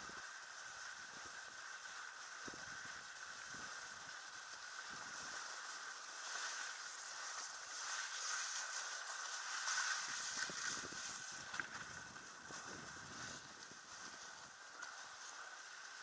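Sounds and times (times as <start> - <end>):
sled runners hissing on snow: 0.0 - 16.0
wind: 0.0 - 16.0.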